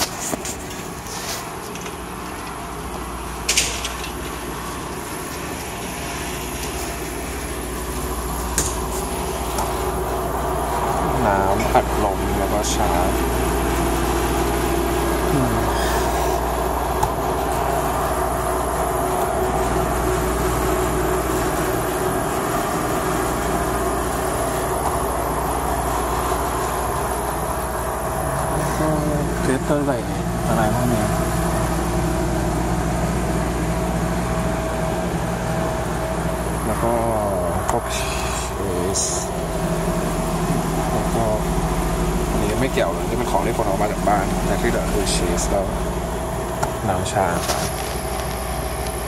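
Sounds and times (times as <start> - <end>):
low machine hum and hiss: 0.0 - 49.0.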